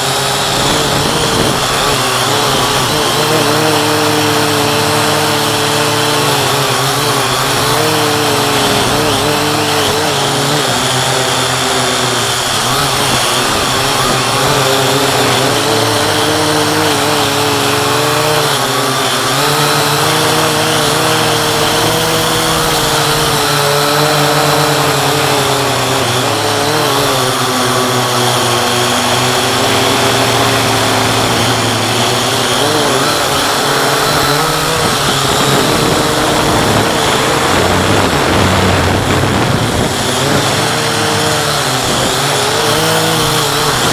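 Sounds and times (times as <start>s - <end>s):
drone motors whining: 0.0s - 43.9s.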